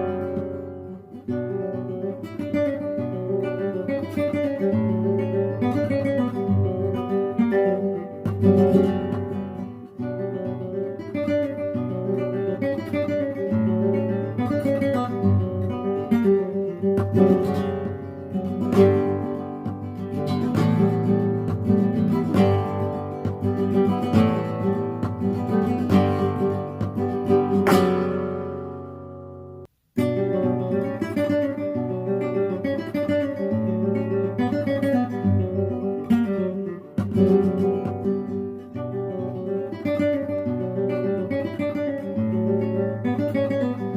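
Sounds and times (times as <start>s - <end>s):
acoustic guitar music: 0.0s - 43.9s.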